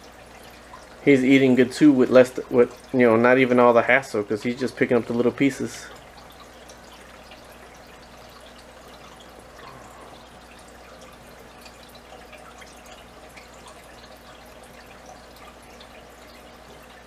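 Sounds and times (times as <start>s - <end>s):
low steady hum: 0.0s - 17.0s
water trickling and dripping: 0.0s - 17.0s.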